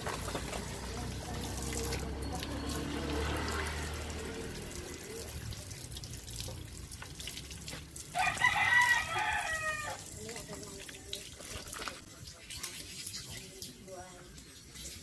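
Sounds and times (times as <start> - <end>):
garden hose water splashing: 0.0 - 15.0.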